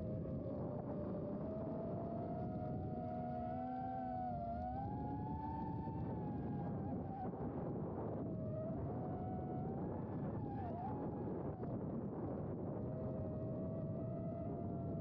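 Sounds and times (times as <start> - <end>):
rush of wind: 0.0 - 15.0.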